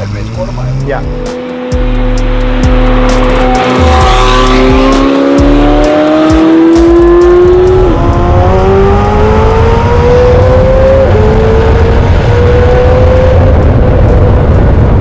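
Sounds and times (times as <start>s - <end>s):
sports car engine accelerating: 0.0s - 15.0s.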